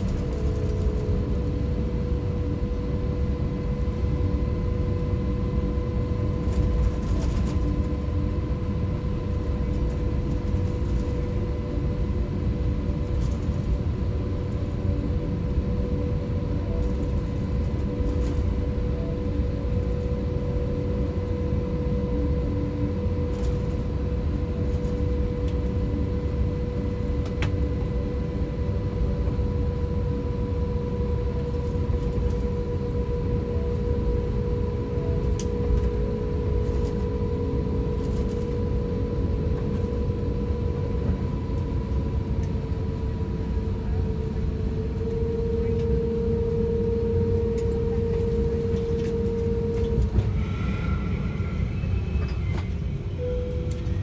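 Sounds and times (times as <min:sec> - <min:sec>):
airplane cabin rumble and hum: 0:00.0 - 0:54.0.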